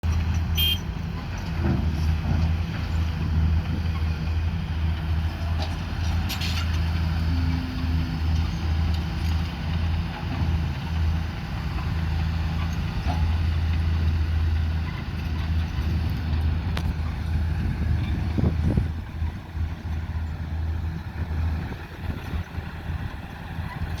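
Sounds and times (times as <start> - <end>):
excavator engine humming: 0.0 - 24.0.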